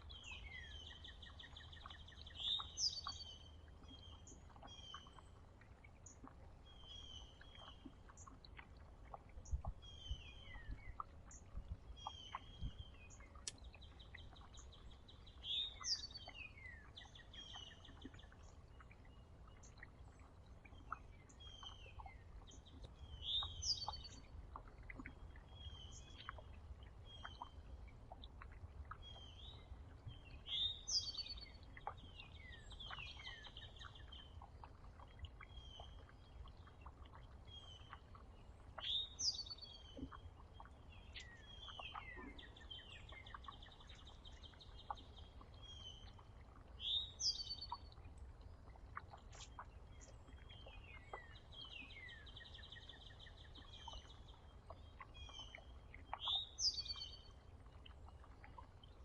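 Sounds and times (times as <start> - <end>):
faint low rumble: 0.0 - 59.0
songbirds chirping: 0.0 - 59.0.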